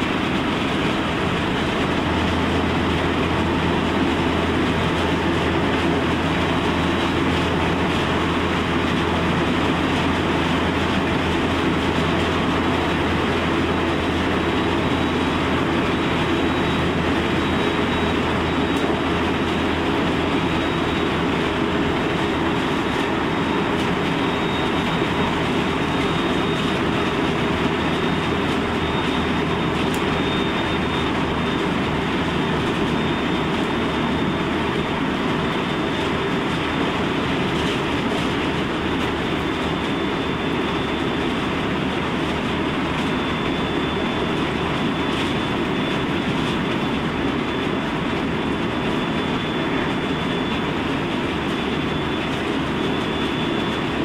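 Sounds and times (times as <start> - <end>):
wheels rumbling on rail: 0.0 - 54.0.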